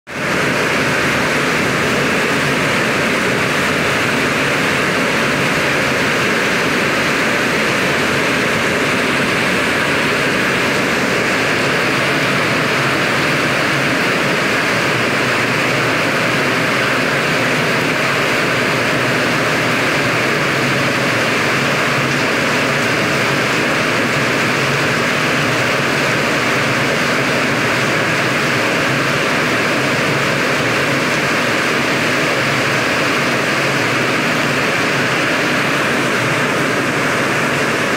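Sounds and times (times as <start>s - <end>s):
heavy rain on foliage: 0.1s - 37.9s
strong wind: 0.1s - 37.9s.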